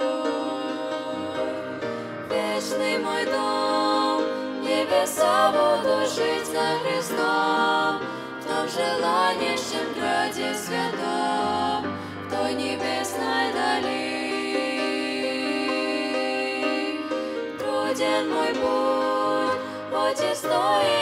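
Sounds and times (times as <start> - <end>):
soft instrumental accompaniment: 0.0 - 21.0
women singing a hymn: 0.0 - 21.0.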